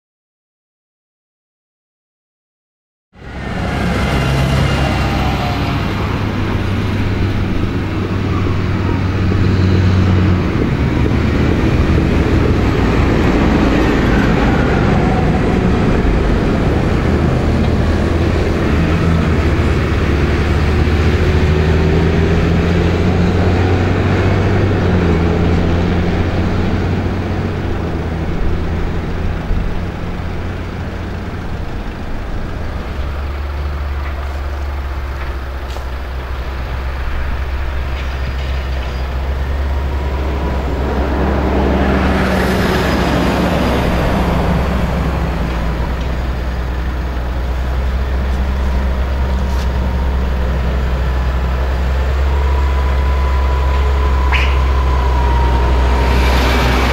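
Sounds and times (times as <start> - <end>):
tractor diesel engine running: 3.2 - 56.9.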